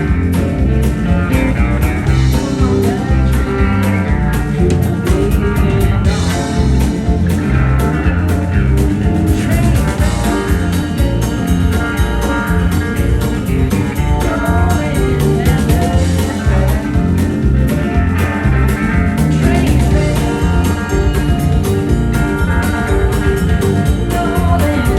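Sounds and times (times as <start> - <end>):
bass guitar: 0.0 - 24.9
electric guitar lead: 0.0 - 24.9
steady drum beat: 0.0 - 24.9.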